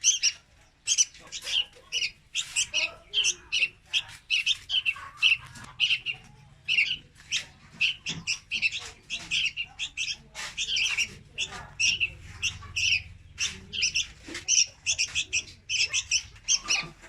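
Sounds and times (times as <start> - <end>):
bird rapid high chirps: 0.0 - 17.0.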